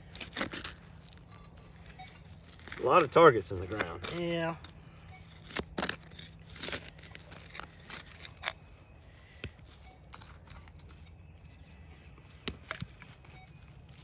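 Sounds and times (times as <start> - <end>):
hand tool scraping loose dirt: 0.0 - 14.0.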